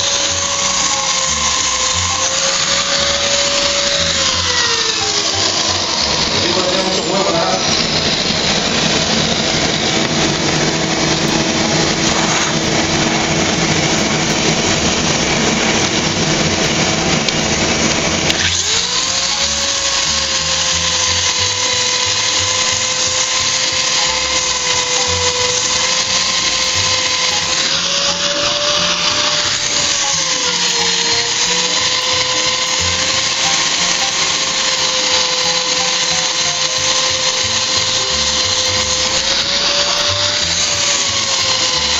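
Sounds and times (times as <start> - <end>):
dust vacuum running: 0.0 - 41.9
floor polisher grinding whine: 0.0 - 41.9.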